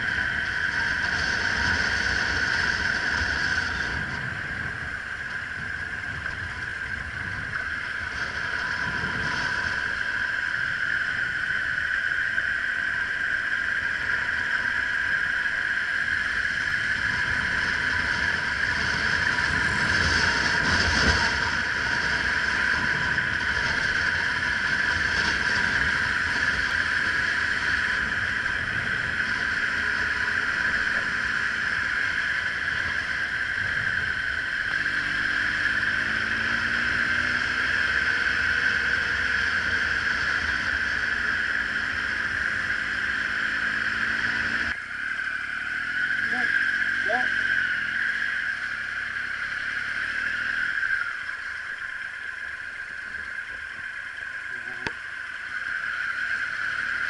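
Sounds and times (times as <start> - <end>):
motorcycle engine hum: 0.0 - 57.0.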